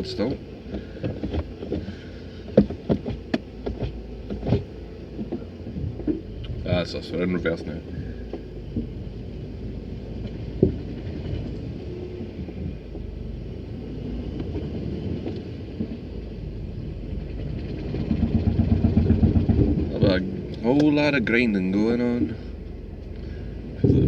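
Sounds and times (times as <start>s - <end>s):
car engine rumble: 0.0s - 24.0s.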